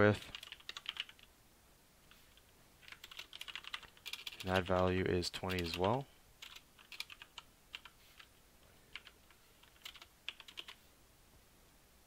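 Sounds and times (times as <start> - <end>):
faint keyboard typing: 0.0 - 1.3, 2.0 - 10.8.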